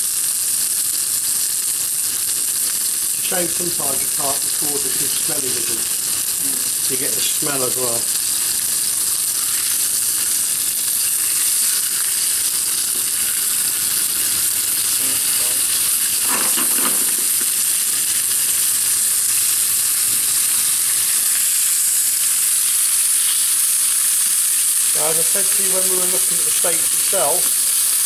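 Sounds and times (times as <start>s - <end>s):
steaks sizzling in a frying pan: 0.0s - 28.0s.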